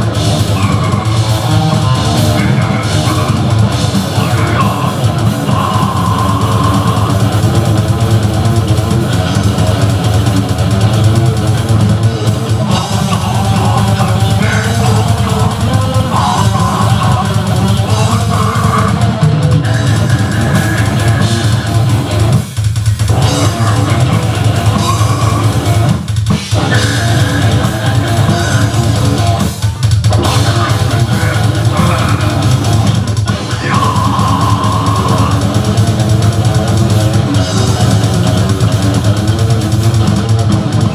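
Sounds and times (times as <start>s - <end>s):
bass guitar: 0.0s - 40.9s
distorted electric guitars: 0.0s - 40.9s
drum kit: 0.0s - 40.9s.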